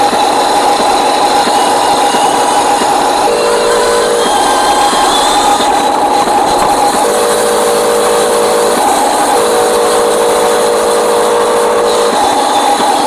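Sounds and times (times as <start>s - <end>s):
model truck motor whining: 0.0s - 13.0s.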